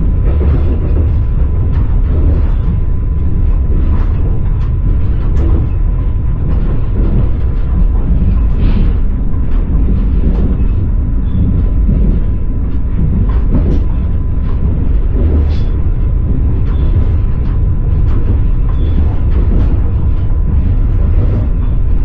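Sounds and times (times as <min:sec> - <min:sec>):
clacks and knocks: 0:00.0 - 0:22.0
train wheels rumbling: 0:00.0 - 0:22.0.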